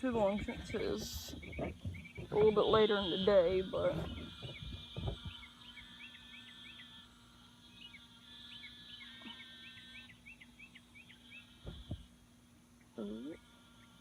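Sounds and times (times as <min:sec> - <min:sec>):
birds chirping faintly: 0:00.0 - 0:14.0
steady low hum: 0:00.0 - 0:14.0.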